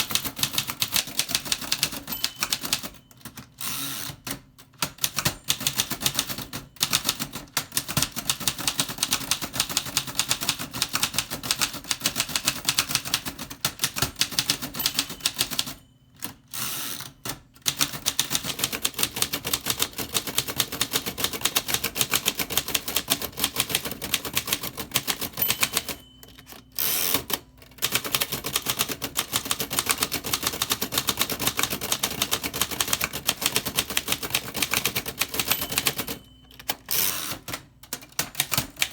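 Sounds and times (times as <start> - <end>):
manual typewriter typing: 0.0 - 38.9.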